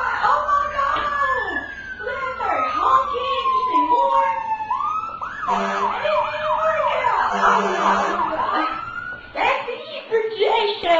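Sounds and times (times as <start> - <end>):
siren wailing and yelping: 0.0 - 9.5.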